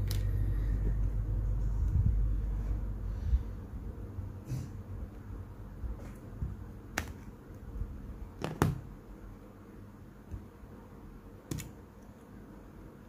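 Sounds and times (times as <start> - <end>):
low background rumble: 0.0 - 11.5.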